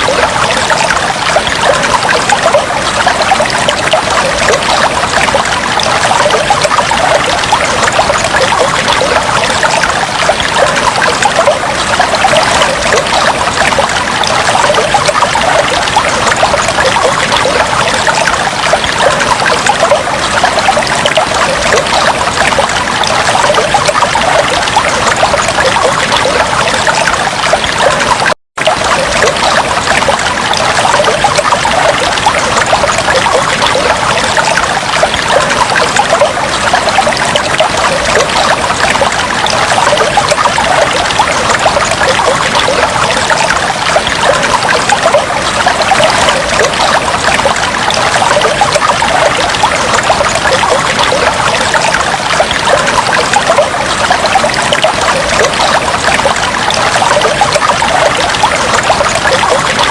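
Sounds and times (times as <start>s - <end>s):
aquarium water trickling and splashing: 0.0s - 59.9s.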